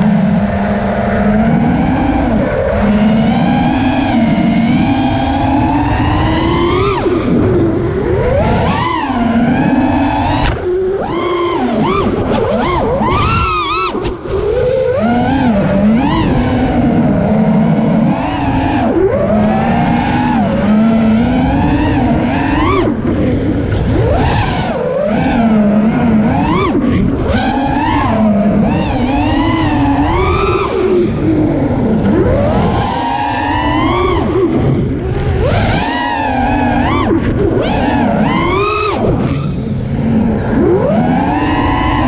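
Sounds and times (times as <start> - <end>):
quadcopter motors whining: 0.0 - 42.0
wind noise: 0.0 - 42.0.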